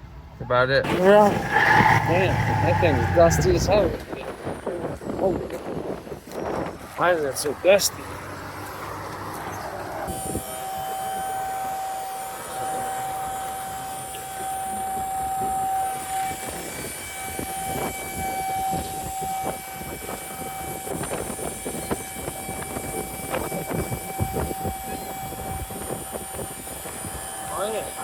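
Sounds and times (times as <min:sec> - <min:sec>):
hydraulic pump whine: 0:00.9 - 0:28.0.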